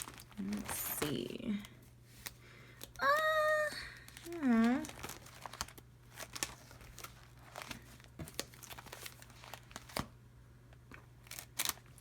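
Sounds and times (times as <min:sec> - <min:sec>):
paper crinkling and rustling: 0:00.0 - 0:03.4, 0:04.0 - 0:10.2, 0:10.9 - 0:12.0.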